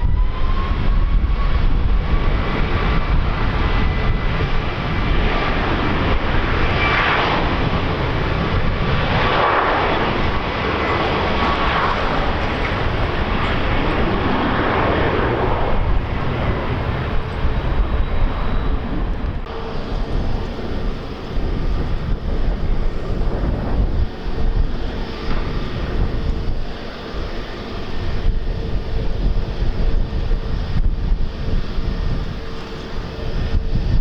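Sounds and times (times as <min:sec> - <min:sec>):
aircraft engines running: 0:00.0 - 0:34.0
faint turbine whine: 0:00.0 - 0:34.0
wind buffeting microphone: 0:00.0 - 0:34.0.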